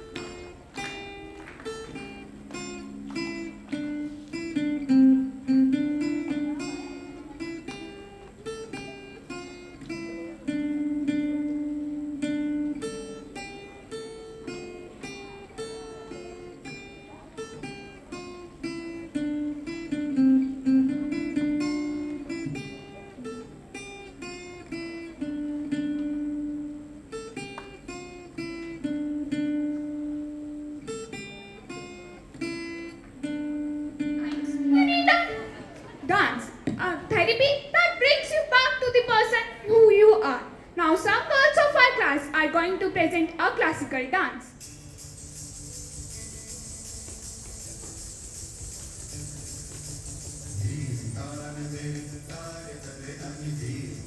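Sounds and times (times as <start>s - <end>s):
acoustic guitar melody: 0.0s - 54.0s.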